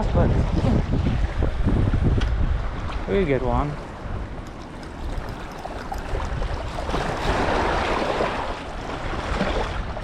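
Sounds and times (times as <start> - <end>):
sea waves washing on shore: 0.0 - 10.0
wind rumble on microphone: 0.0 - 10.0.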